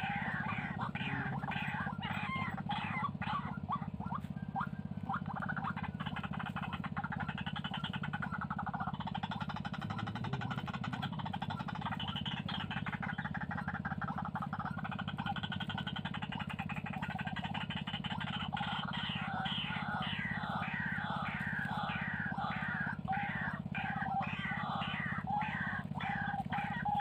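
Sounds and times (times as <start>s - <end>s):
birds croaking chatter: 0.0s - 27.0s.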